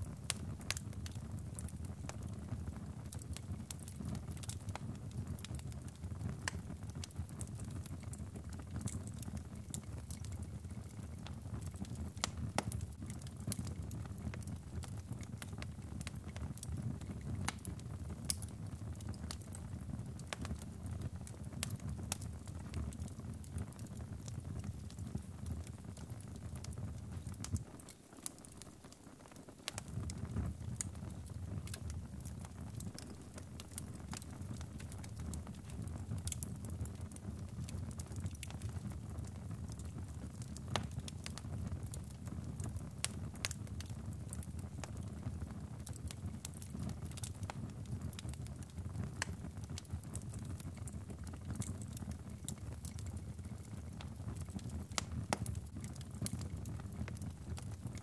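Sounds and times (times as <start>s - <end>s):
crackles and pops of burning logs: 0.0s - 58.0s
low rumble of flame: 0.0s - 58.0s.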